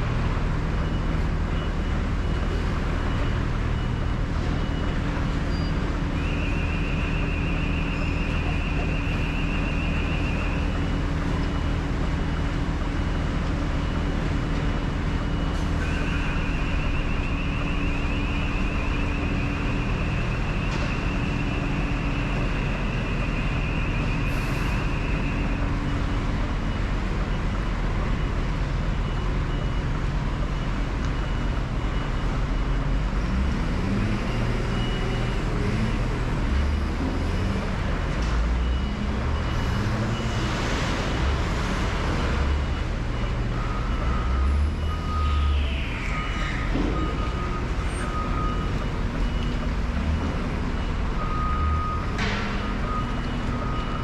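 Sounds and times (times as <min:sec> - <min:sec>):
diesel engine running: 0:00.0 - 0:54.0
reversing alarm beeping: 0:00.7 - 0:54.0.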